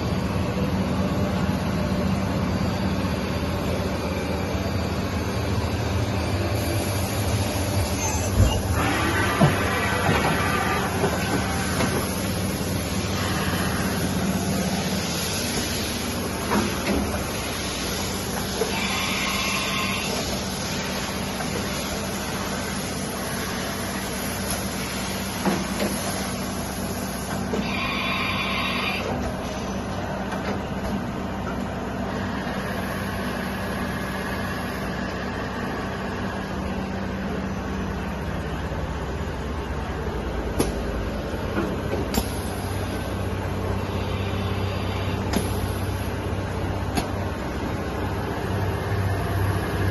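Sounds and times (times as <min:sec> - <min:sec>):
faint machine whine: 0:00.0 - 0:24.7, 0:26.4 - 0:49.9
milling machine hum: 0:00.0 - 0:49.9.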